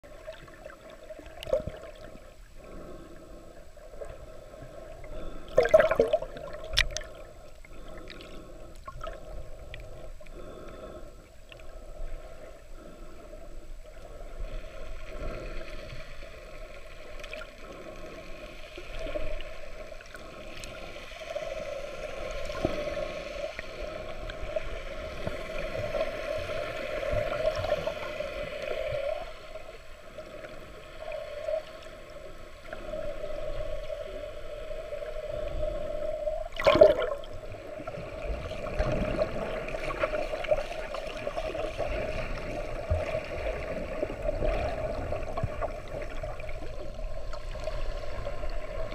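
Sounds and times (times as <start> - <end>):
muffled underwater water noise: 0.0 - 48.9.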